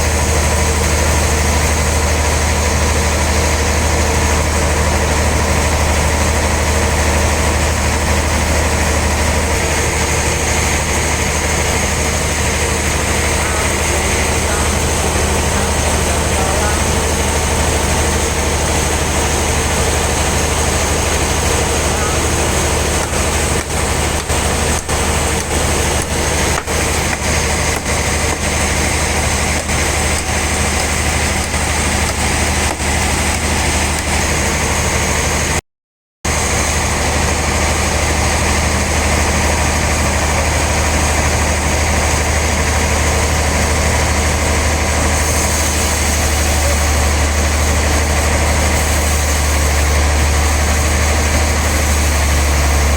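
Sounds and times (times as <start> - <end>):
engine-driven saw droning: 0.0 - 35.6, 36.3 - 52.9.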